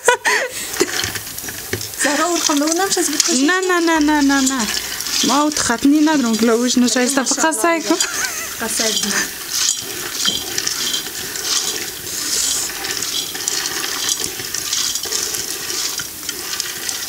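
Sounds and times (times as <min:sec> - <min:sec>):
food sizzling in hot fat: 0:00.5 - 0:17.0
pulses pouring from metal bowl: 0:00.5 - 0:17.0.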